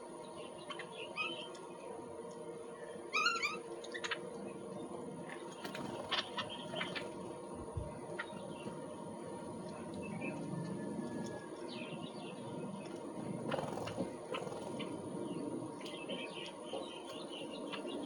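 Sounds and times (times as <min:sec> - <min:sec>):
faint steady hum: 0:00.0 - 0:18.0
small birds chirping: 0:00.0 - 0:18.0.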